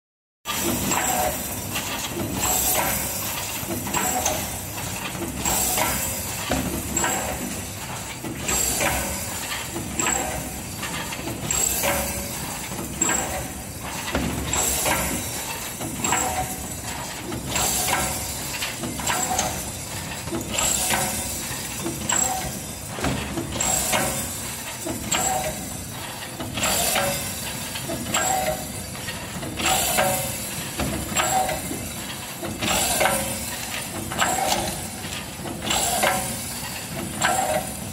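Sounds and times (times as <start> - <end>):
machine mechanical clatter: 0.5 - 37.9.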